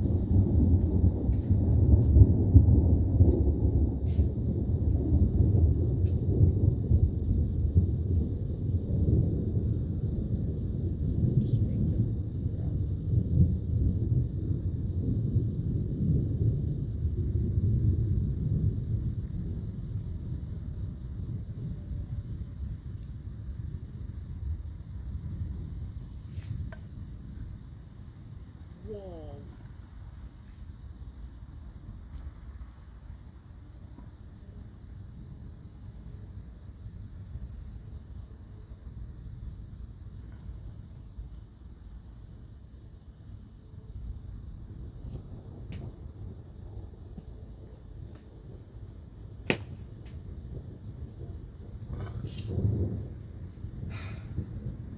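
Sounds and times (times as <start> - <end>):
crickets trilling: 0.0 - 54.9
low thunder rumble: 0.0 - 54.9.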